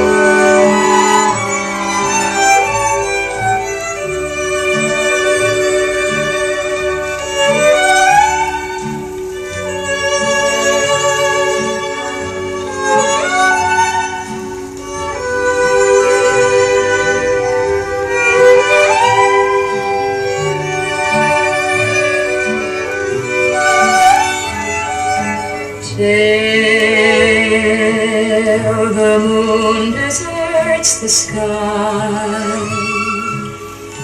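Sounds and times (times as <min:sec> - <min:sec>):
held string chords: 0:00.0 - 0:34.0
violin melody: 0:00.0 - 0:34.0.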